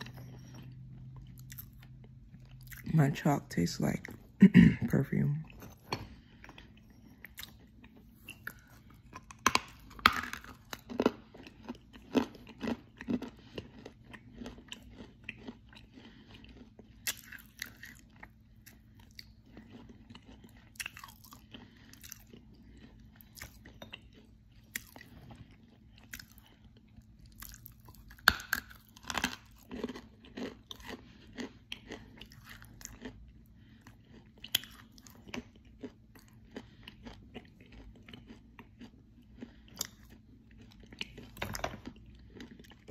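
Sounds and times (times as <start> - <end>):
chalk being chewed with crunches: 6.3 - 41.4.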